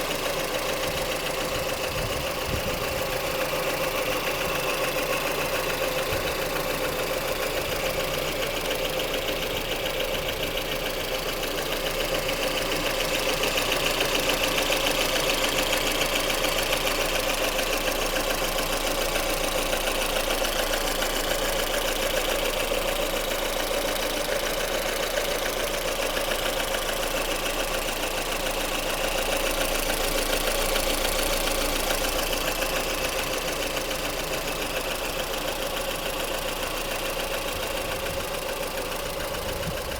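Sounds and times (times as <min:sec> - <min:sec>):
car engine idling: 0:00.0 - 0:39.9
engine tapping knock: 0:00.1 - 0:39.9.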